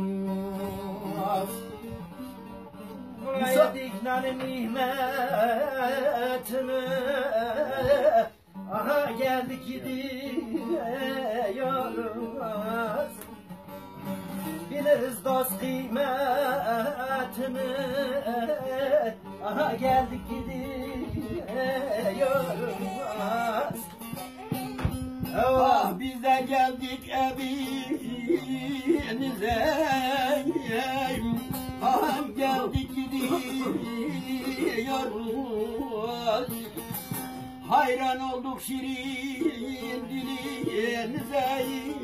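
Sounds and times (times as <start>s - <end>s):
man singing folk tune: 0.0s - 42.0s
plucked lute: 0.0s - 42.0s.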